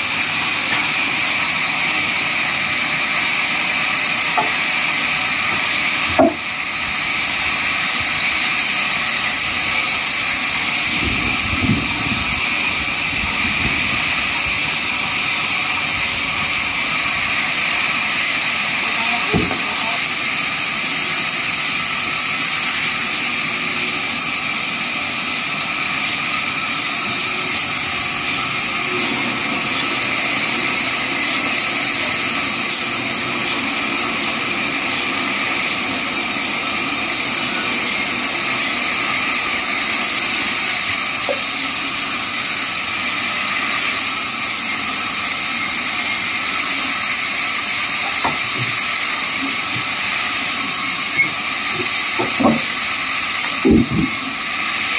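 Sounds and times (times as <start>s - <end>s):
band saw cutting log: 0.0s - 54.9s.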